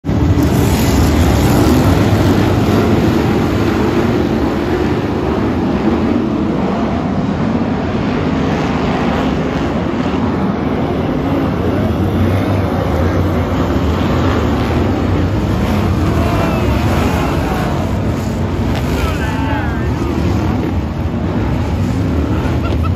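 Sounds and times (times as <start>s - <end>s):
racing car engines blaring: 0.0s - 22.9s.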